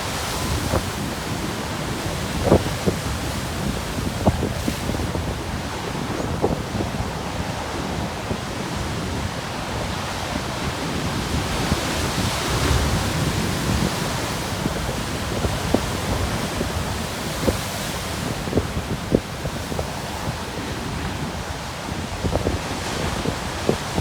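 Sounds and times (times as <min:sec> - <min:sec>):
ocean waves breaking on rocks: 0:00.0 - 0:24.0
wind buffeting microphone: 0:00.0 - 0:24.0.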